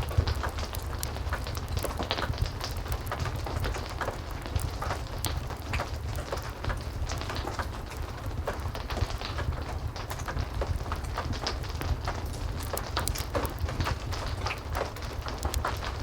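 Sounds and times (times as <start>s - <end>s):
heavy rain falling: 0.0s - 16.0s
wood fire crackling: 0.0s - 16.0s.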